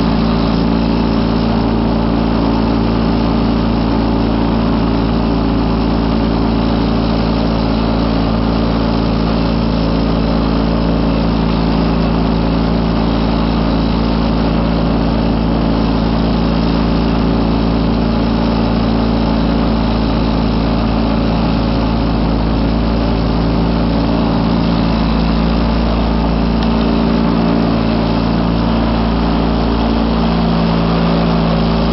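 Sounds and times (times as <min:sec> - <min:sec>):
garden tractor engine running: 0:00.0 - 0:31.9
snow thrower blowing snow: 0:00.0 - 0:31.9.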